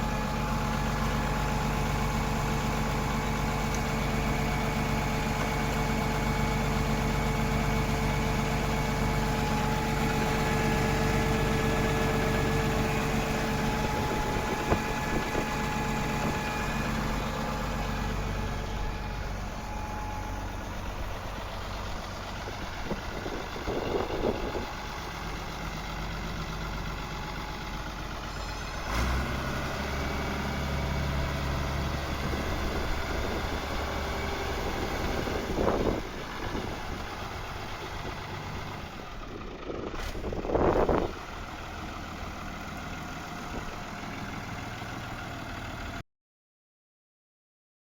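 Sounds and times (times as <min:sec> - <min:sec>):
tractor diesel engine idling: 0:00.0 - 0:46.0.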